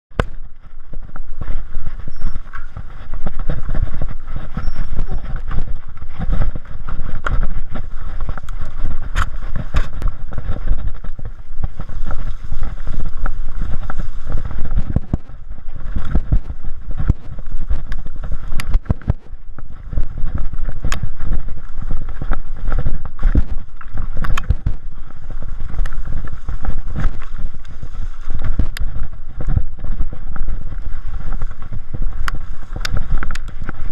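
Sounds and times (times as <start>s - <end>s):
bike knocking and rattling: 0.1s - 33.9s
wind buffeting microphone: 0.1s - 33.9s.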